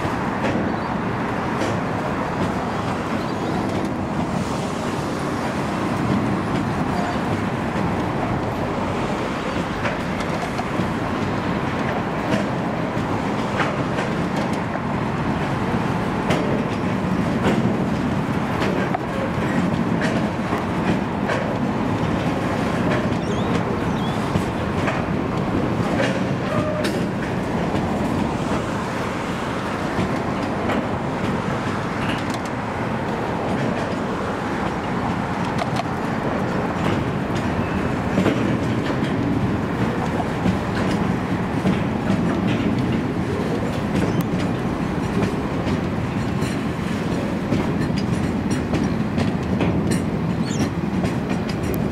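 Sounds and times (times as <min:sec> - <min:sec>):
freight wagons rumbling on rails: 0:00.0 - 0:51.9
wheels clattering over rail joints: 0:00.1 - 0:51.9.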